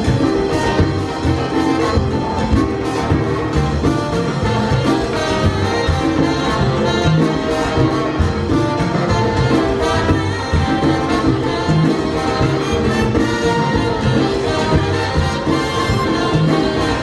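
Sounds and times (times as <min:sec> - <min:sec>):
salsa band playing: 0:00.0 - 0:17.0
trumpets: 0:00.0 - 0:17.0.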